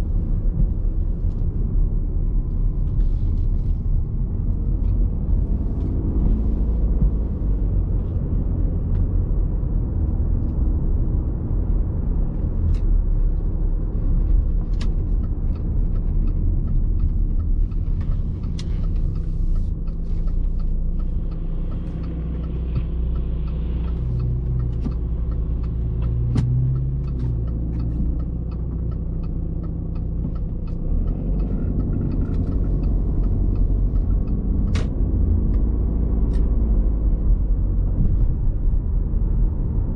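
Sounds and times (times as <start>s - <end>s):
diesel engine low drone: 0.0s - 39.9s
tyre and road noise: 0.0s - 39.9s.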